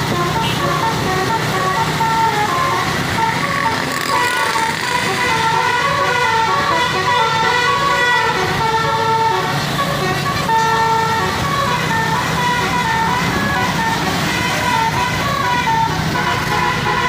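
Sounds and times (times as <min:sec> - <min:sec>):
musical bus horn playing a tune: 0:00.0 - 0:17.0.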